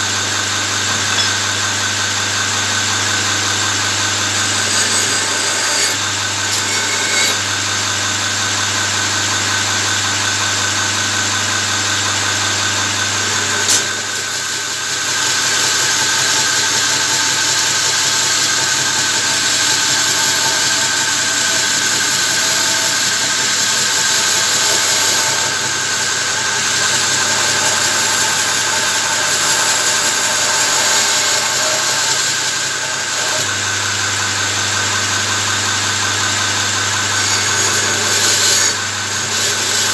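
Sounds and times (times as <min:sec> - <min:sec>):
belt grinder grinding steel: 0:00.0 - 0:07.9, 0:13.0 - 0:39.9.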